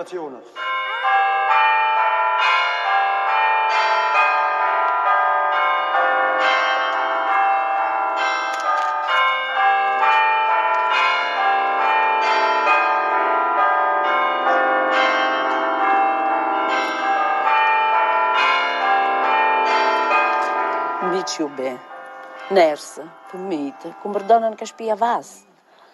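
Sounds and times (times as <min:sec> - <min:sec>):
church bells pealing: 0:00.0 - 0:25.5.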